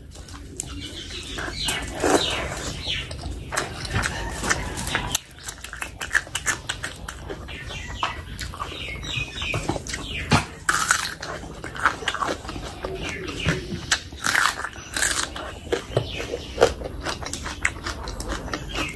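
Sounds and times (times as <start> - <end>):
wet chewing with mouth clicks: 0.0 - 18.9.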